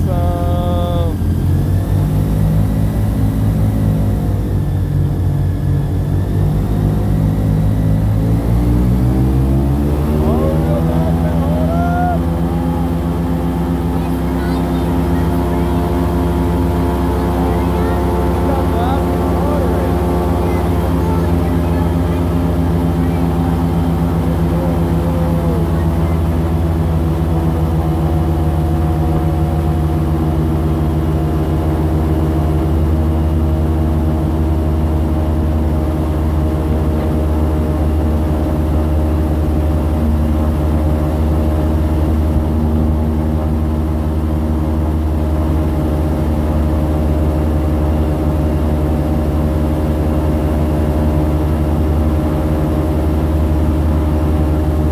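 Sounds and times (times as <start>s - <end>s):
airboat engine and propeller: 0.0s - 54.9s.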